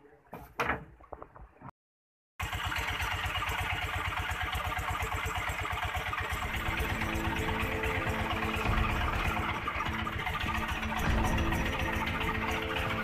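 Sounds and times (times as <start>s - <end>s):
boat engine running: 2.4s - 13.0s.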